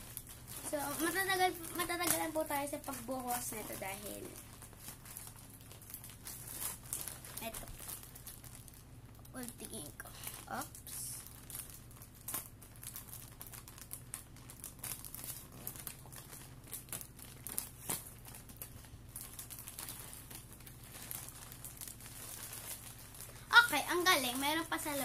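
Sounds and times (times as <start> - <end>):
packaging crinkling and rustling: 0.0 - 25.0.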